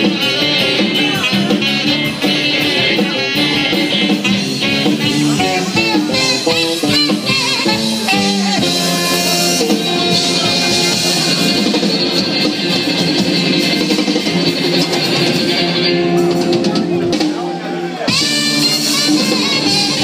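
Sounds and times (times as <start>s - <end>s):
electric guitar: 0.0s - 20.0s
live dance band music: 0.0s - 20.0s.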